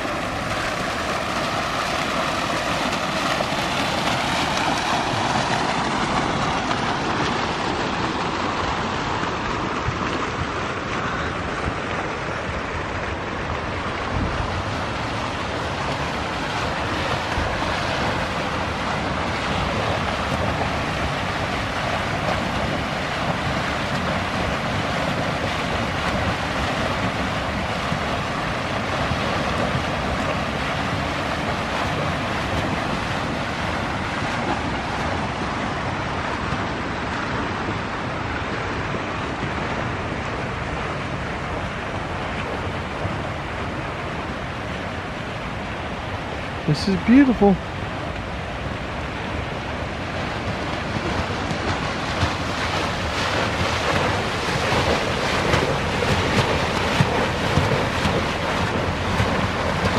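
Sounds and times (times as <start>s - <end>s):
fountain water cascading: 0.0s - 59.9s.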